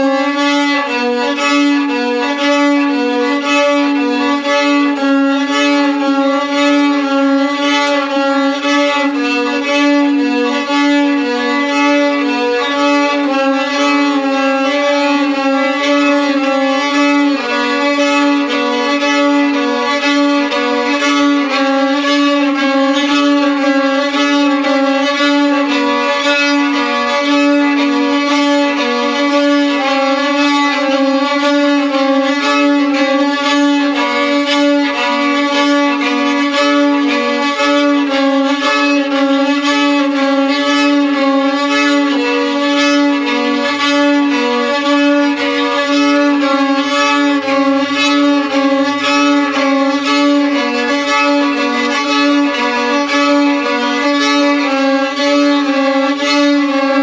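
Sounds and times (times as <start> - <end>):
fiddle melody: 0.0 - 57.0
held low drone note: 0.0 - 57.0.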